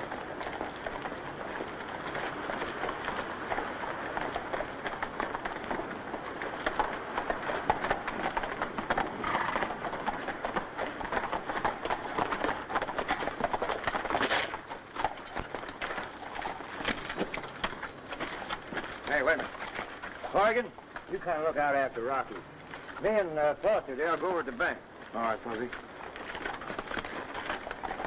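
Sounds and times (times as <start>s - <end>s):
horses galloping: 0.0s - 28.0s.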